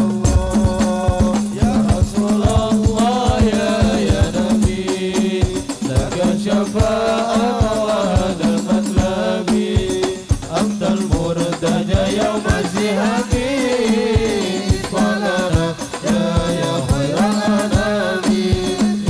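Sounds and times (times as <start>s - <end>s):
frame drums beating: 0.0s - 19.0s
men singing into microphones: 0.0s - 19.0s.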